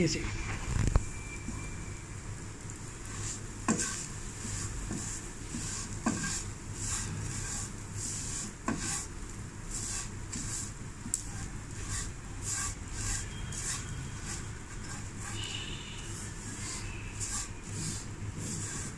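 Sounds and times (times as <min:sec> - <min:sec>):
wooden spoon scraping pan: 0:03.0 - 0:18.9.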